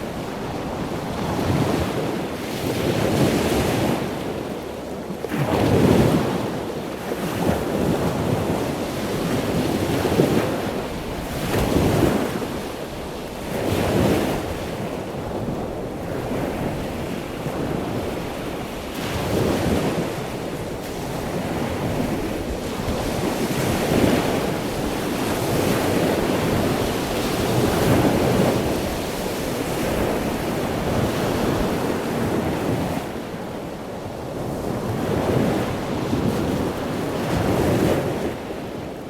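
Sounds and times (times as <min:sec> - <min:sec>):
ocean waves breaking: 0:00.0 - 0:04.6, 0:05.3 - 0:39.0
wind noise: 0:00.0 - 0:39.0.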